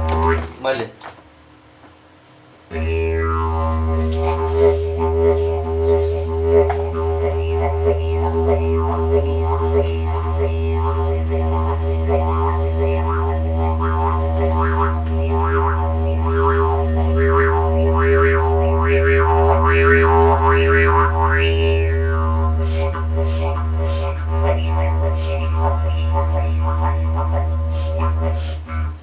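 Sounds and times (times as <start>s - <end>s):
didgeridoo low drone: 0.0s - 0.8s, 2.7s - 29.0s.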